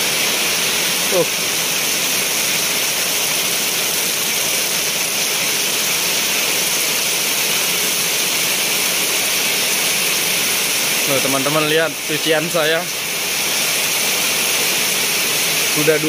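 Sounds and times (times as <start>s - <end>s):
heavy rain splashing in puddles: 0.0s - 16.0s.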